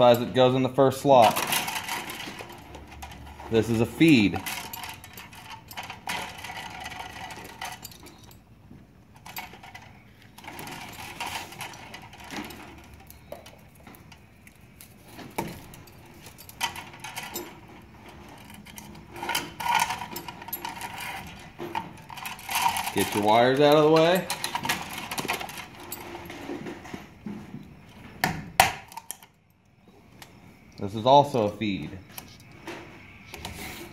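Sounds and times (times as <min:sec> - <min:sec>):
cable scraping and rustling: 0:00.0 - 0:28.2, 0:28.8 - 0:33.9.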